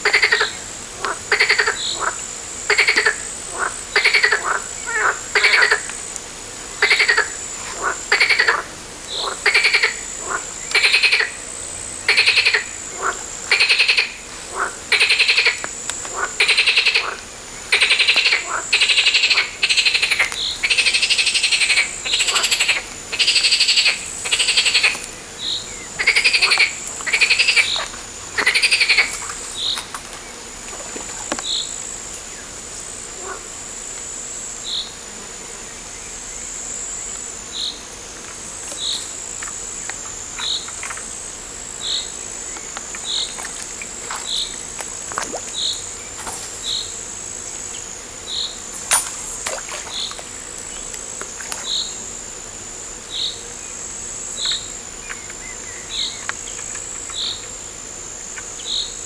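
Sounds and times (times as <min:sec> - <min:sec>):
frogs croaking: 0:00.0 - 0:59.0
high insect trill: 0:00.0 - 0:59.0.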